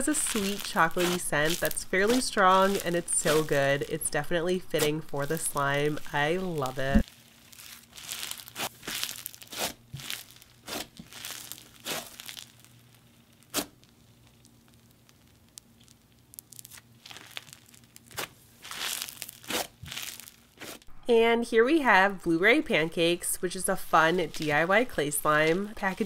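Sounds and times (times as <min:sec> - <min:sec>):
slime crunching: 0:00.0 - 0:20.9.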